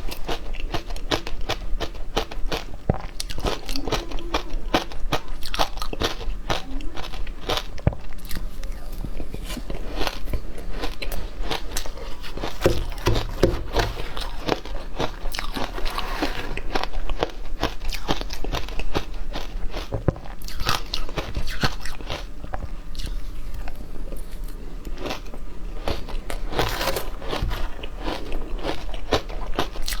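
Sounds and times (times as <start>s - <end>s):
ice being bitten and chewed: 0.0s - 30.0s.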